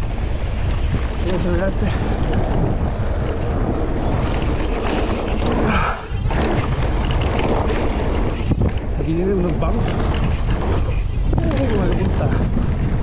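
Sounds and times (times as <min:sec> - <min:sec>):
bike rattling and knocking: 0:00.0 - 0:13.0
wind buffeting microphone: 0:00.0 - 0:13.0.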